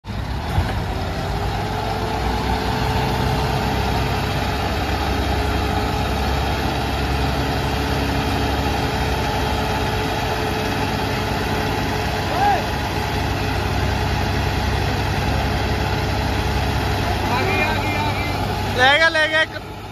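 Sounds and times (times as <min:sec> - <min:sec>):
tractor diesel engines droning: 0:00.0 - 0:19.9.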